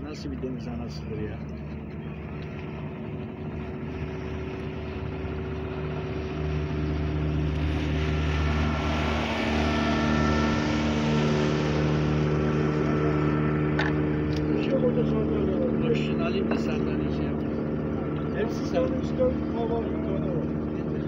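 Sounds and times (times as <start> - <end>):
motorboat engine drone: 0.0 - 21.0.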